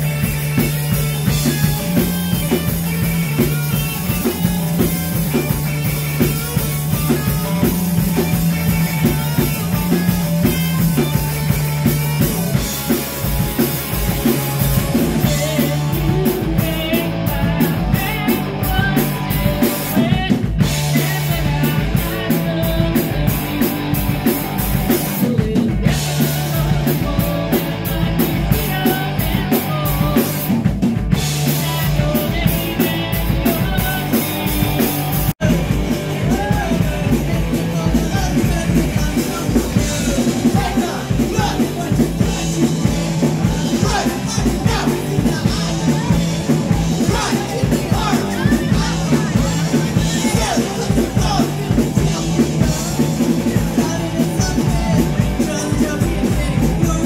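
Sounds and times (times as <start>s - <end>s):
person singing and yelling: 0.0s - 13.1s, 14.0s - 30.6s, 31.2s - 57.0s
distorted electric guitars: 0.0s - 57.0s
drum kit with cymbals: 0.0s - 57.0s.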